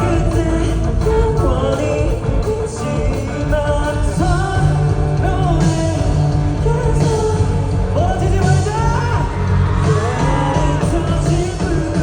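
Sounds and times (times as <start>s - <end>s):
person singing: 0.0s - 12.0s
rock band playing: 0.0s - 12.0s.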